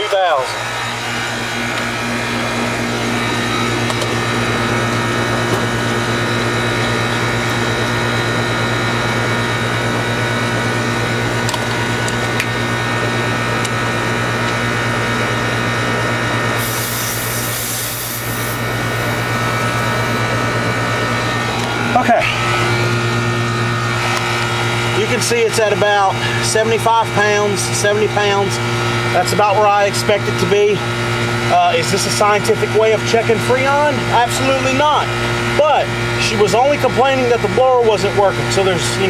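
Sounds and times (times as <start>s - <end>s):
air conditioner compressor humming: 0.0s - 39.0s
condenser fan running: 0.0s - 39.0s.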